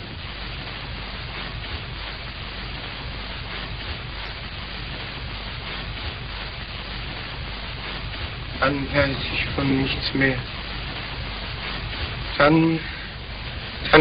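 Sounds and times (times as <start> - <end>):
film soundtrack hiss and hum: 0.0 - 14.0.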